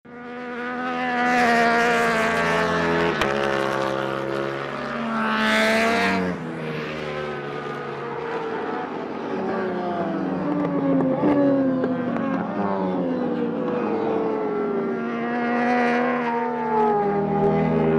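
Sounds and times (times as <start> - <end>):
racing motorcycle engine revving: 0.1 - 17.9.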